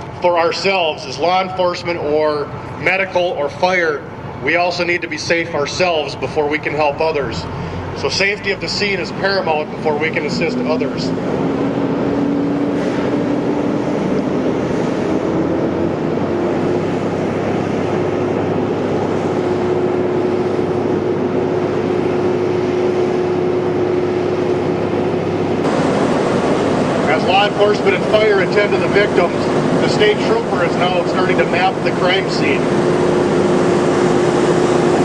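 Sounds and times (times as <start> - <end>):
engine humming: 0.0 - 35.0.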